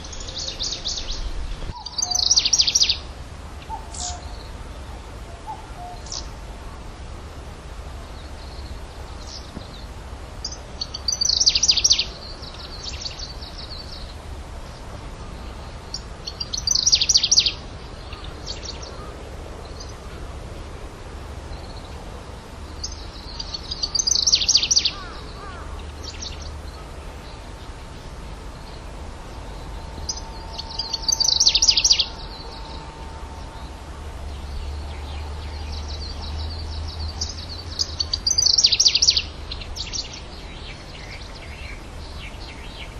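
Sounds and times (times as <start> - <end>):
warbler singing rapid notes: 0.0 - 4.6, 8.2 - 20.0, 22.6 - 42.9.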